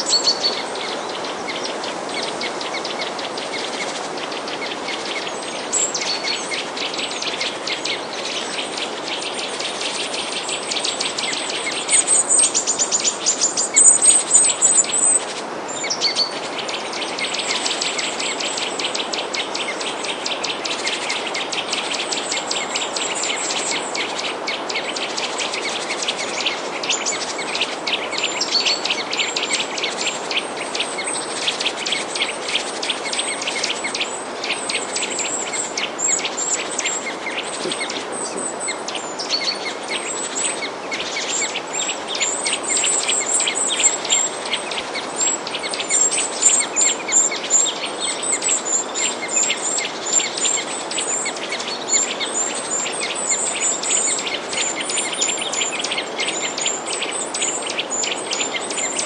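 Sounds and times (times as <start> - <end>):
small birds chirping: 0.0 - 59.0
steady soft hiss: 0.0 - 59.0.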